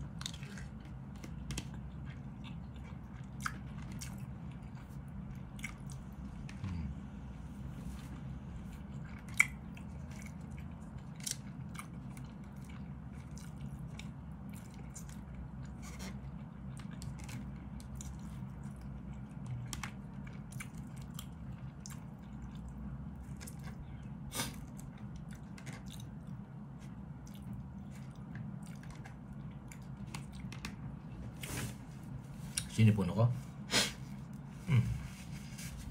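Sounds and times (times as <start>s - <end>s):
person chewing: 0.0s - 6.9s, 8.0s - 30.8s.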